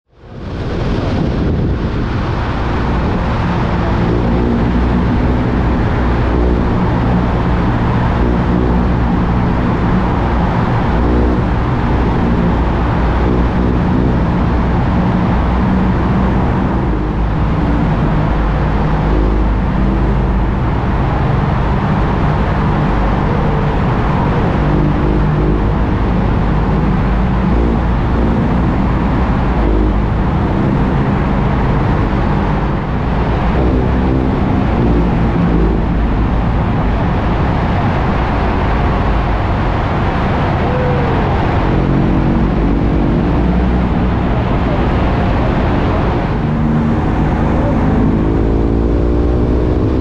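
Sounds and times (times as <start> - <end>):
wind and road noise: 0.0 - 50.0
motorcycle engine in tunnel: 0.1 - 50.0.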